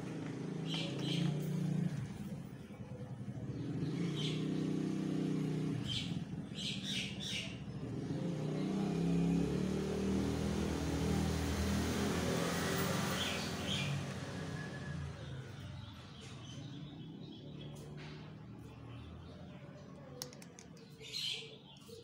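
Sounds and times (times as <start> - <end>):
vehicle engine running: 0.0 - 21.1.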